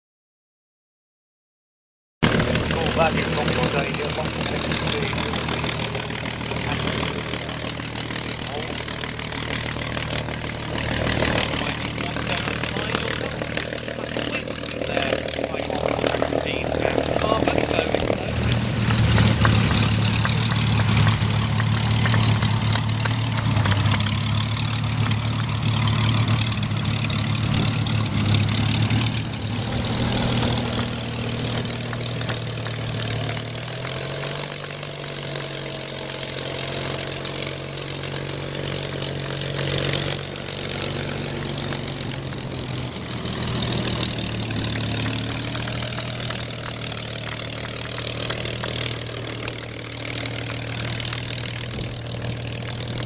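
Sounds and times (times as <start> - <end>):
piston aircraft engines idling: 2.2 - 53.0.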